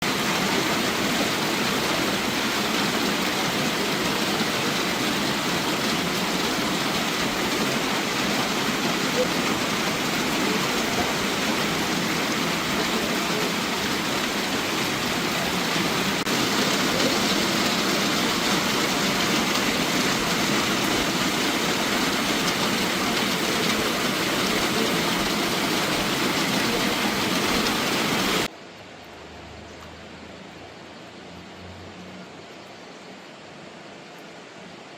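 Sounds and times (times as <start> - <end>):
rushing floodwater: 0.0 - 34.9.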